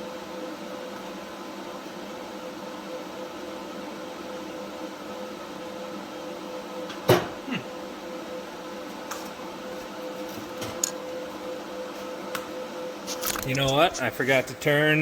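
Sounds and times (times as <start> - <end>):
welder electrical hum: 0.0 - 15.0.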